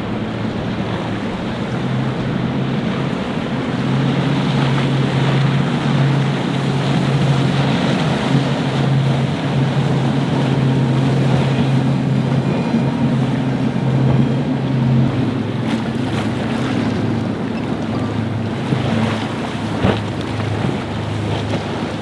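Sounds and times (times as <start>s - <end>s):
motorboat engine running: 0.0s - 22.0s
surf: 0.0s - 22.0s.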